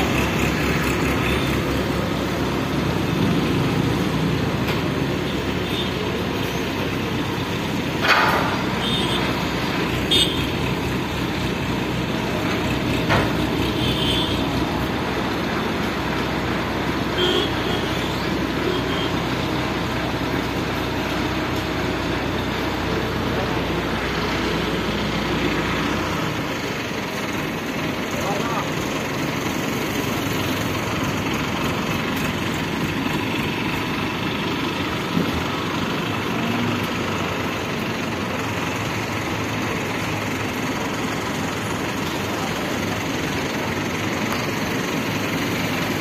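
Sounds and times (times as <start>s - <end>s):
heavy vehicle engine running: 0.0s - 46.0s.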